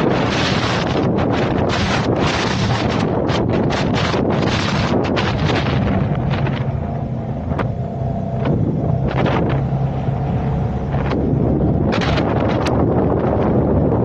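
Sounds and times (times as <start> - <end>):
vehicle engine and road hum: 0.0 - 14.0
wind buffeting microphone: 0.0 - 14.0.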